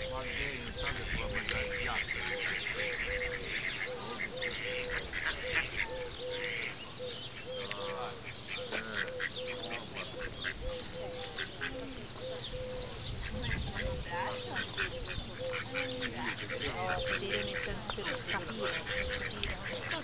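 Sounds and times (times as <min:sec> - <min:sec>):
mallards calling: 0:00.0 - 0:20.0.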